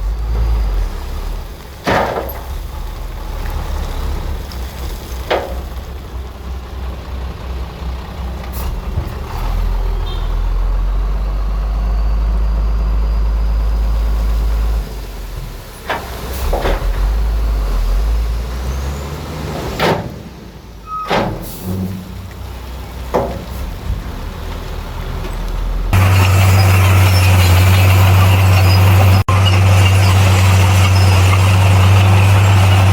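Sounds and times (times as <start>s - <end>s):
bulldozer diesel engine: 0.0s - 32.9s.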